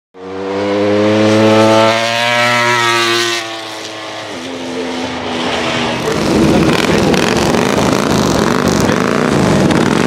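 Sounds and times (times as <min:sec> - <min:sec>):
racing motorcycle engine high revs: 0:00.2 - 0:10.0.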